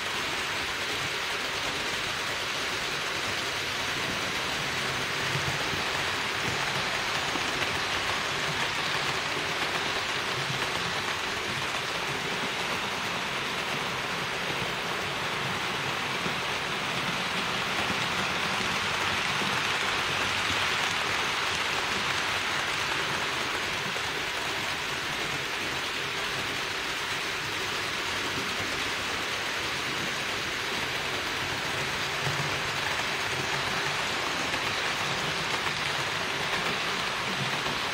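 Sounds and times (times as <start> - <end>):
model train wheels hissing on track: 0.0 - 37.9.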